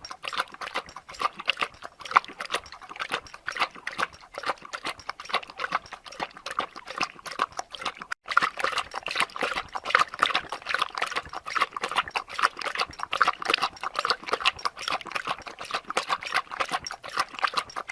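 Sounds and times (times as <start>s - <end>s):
dog lapping water: 0.0s - 17.9s.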